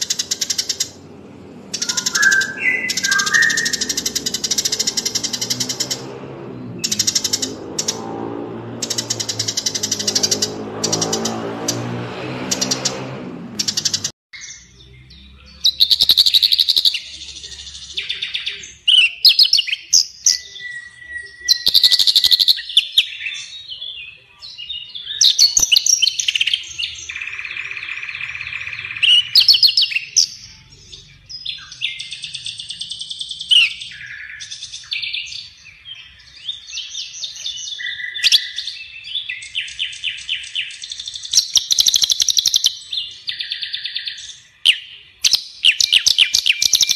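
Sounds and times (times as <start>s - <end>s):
songbird chirps and trills: 0.0s - 13.0s, 13.6s - 46.9s.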